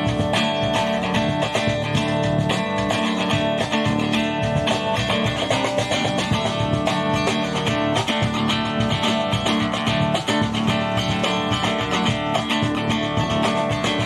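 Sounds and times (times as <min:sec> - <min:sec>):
band with strummed guitars: 0:00.0 - 0:14.0.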